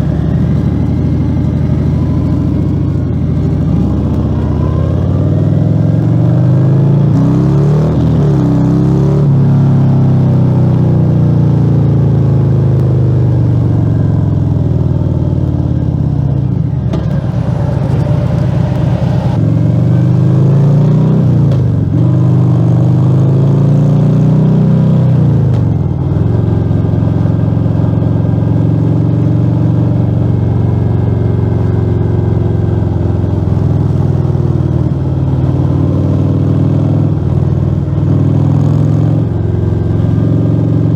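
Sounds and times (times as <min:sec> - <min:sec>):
motorcycle engine revving loud: 0:00.0 - 0:40.9.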